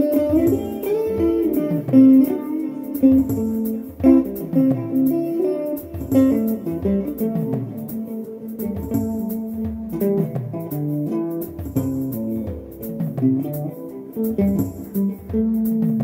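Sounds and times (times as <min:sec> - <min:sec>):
plucked guitar: 0:00.0 - 0:16.0
steady beat: 0:00.0 - 0:16.0.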